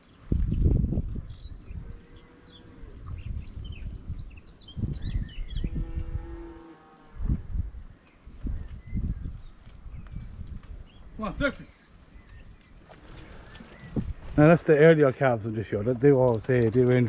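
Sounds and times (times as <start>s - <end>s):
small birds chirping: 0.0s - 6.4s, 7.8s - 17.0s.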